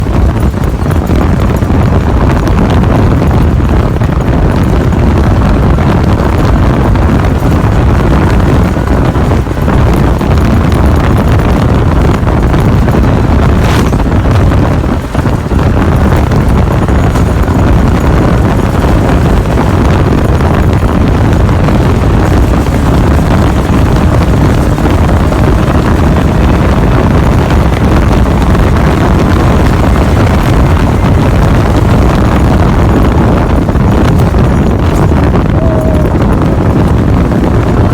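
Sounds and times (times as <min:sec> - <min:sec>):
truck engine running loud: 0:00.0 - 0:37.9
wind buffeting microphone: 0:00.0 - 0:37.9.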